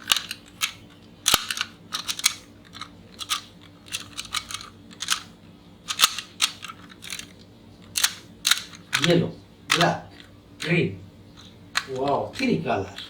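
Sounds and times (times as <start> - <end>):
plastic toy trucks clicking: 0.0 - 5.3, 5.9 - 10.7, 11.8 - 13.0.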